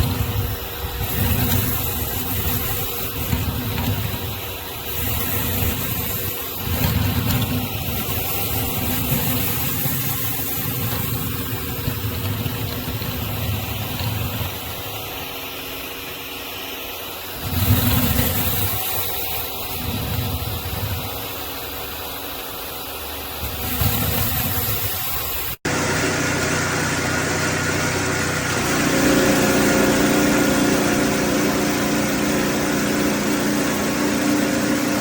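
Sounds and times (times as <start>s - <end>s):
water spray hiss: 0.0s - 25.6s, 26.6s - 35.0s
pressure washer running: 0.0s - 35.0s.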